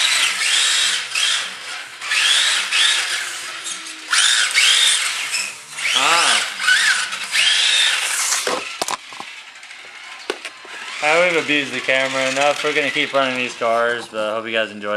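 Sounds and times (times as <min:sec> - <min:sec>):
electric motors whining: 0:00.0 - 0:14.9
tyres sliding on concrete: 0:01.5 - 0:14.4.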